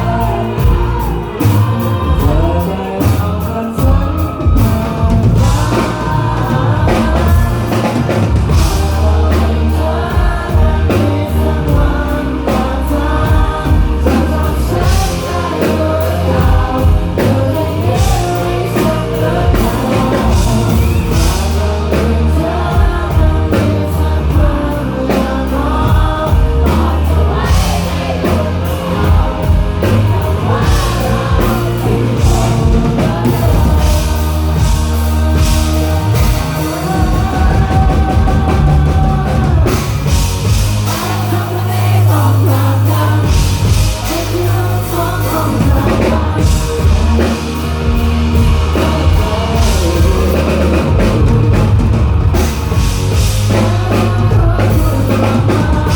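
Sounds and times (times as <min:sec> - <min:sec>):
lead vocal singing: 0:00.0 - 0:55.9
rock band playing live: 0:00.0 - 0:55.9.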